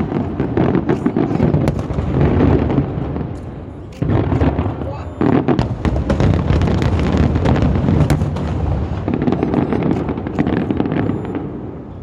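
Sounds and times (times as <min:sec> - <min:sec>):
sharp firework crack: 0:00.0 - 0:11.7
fireworks bangs and crackling: 0:00.0 - 0:12.0.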